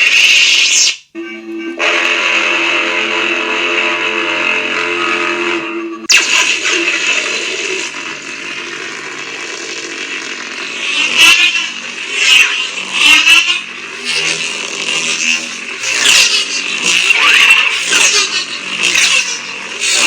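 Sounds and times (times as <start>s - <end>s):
lightsaber electric hum: 1.2s - 20.0s.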